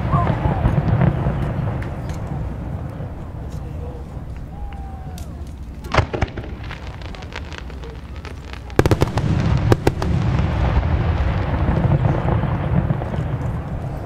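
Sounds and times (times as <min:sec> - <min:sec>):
loud firework bangs: 0:00.0 - 0:04.1, 0:04.7 - 0:14.0
firework cracks: 0:00.0 - 0:14.0
fireworks crackling: 0:00.0 - 0:14.0.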